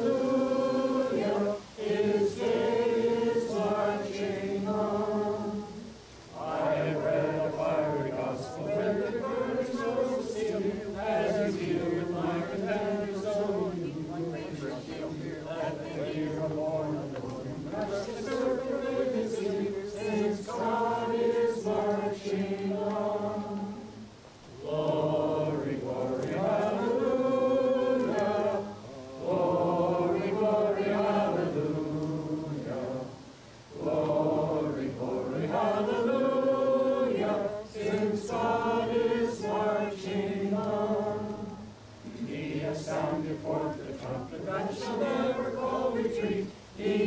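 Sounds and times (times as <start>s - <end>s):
group singing unaccompanied: 0.0s - 47.0s.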